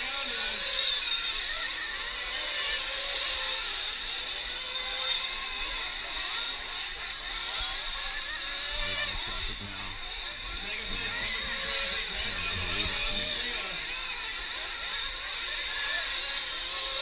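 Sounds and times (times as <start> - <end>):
rc truck engines buzzing: 0.0 - 17.0.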